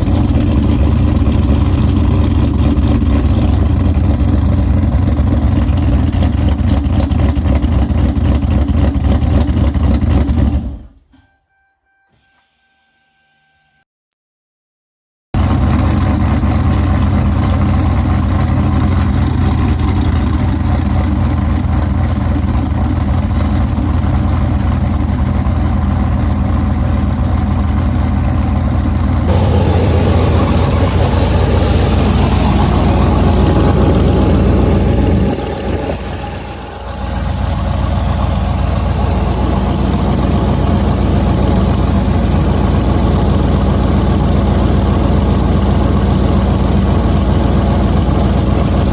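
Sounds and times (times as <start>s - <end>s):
car engine idling: 0.0s - 11.1s, 15.4s - 48.9s.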